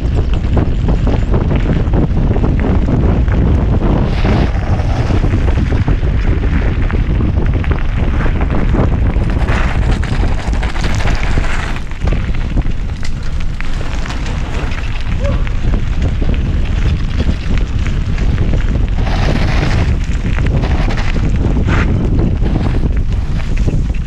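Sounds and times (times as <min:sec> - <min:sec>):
bike rattling and knocking: 0:00.0 - 0:24.0
wind rumbling on microphone: 0:00.0 - 0:24.0
tyres crunching on gravel: 0:00.1 - 0:24.0.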